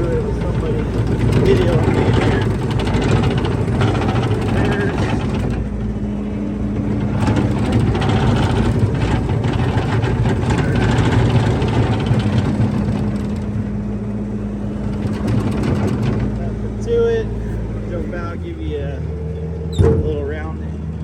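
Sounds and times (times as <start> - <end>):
clattering: 0.0 - 14.0, 14.6 - 18.5
diesel engine running: 0.0 - 21.0.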